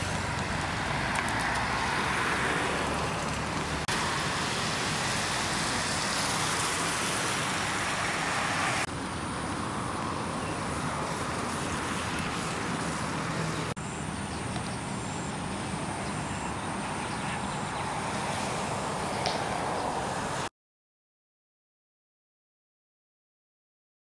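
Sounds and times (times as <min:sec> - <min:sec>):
passing traffic: 0:00.0 - 0:20.5.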